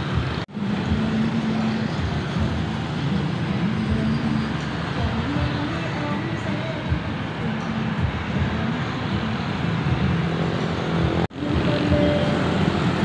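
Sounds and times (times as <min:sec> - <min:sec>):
motorbikes passing: 0:00.0 - 0:13.0.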